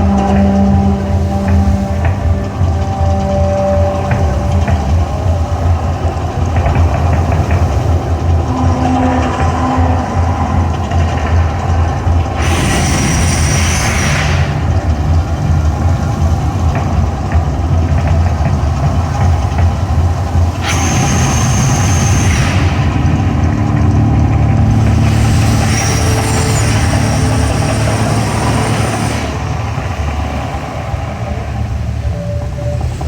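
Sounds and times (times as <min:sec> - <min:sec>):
deep continuous rumbling: 0:00.0 - 0:33.0
hissing rushing noise: 0:00.0 - 0:33.0.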